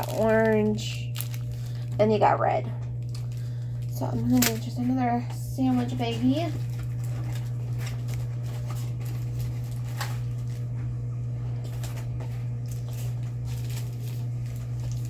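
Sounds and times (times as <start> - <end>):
plastic bag rustling: 0.0 - 15.0
steady low hum: 0.0 - 15.0.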